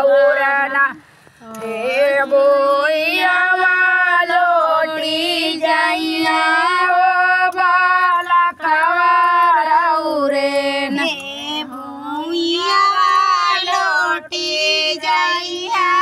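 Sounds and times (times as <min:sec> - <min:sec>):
woman singing folk song: 0:00.0 - 0:16.0.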